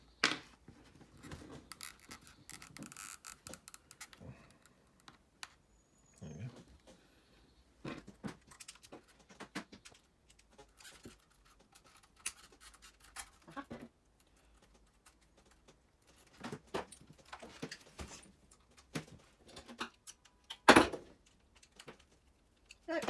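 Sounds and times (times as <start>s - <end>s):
small parts clicking and rattling: 1.1s - 5.6s, 8.1s - 23.0s.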